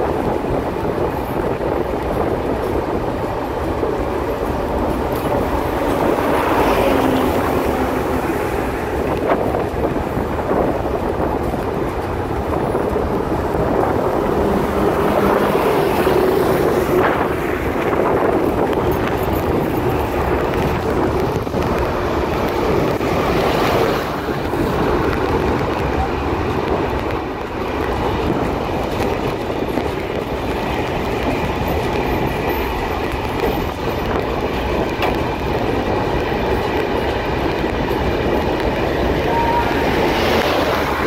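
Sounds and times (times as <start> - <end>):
moving train rushing: 0.0 - 41.0
wind buffeting microphone: 0.0 - 41.0.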